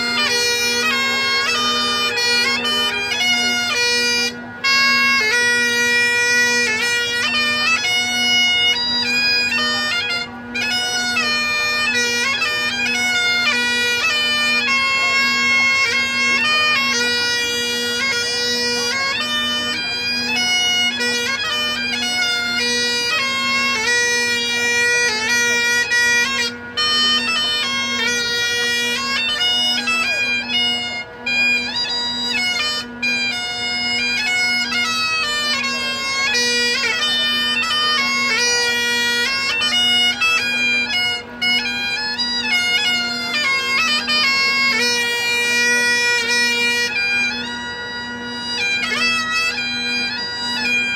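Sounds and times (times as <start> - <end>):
bagpipes playing a tune: 0.0 - 50.9.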